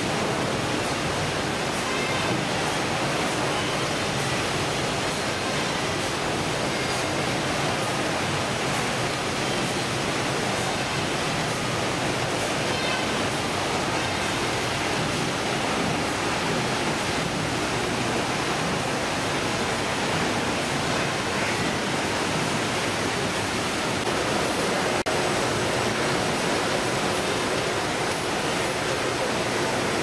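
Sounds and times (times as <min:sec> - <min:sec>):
conveyors and machinery running: 0:00.0 - 0:30.0
spraying and running water: 0:00.0 - 0:30.0.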